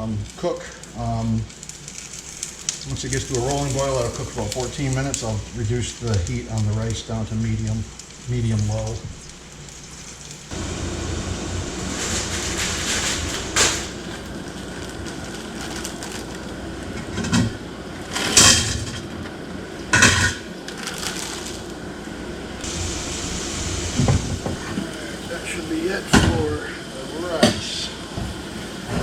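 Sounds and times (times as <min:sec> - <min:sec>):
chicken frying in pan sizzling: 0:00.0 - 0:29.0.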